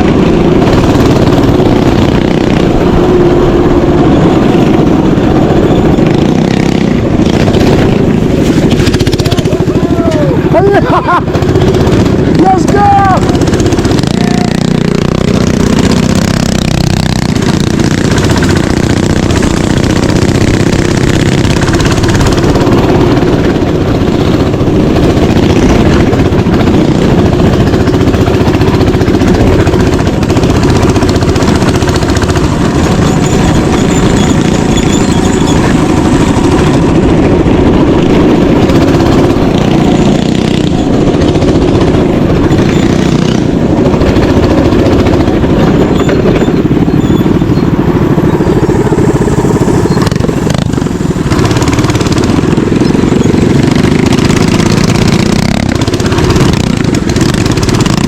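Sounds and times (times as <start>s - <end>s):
mini bike engine running: 0.0s - 58.0s.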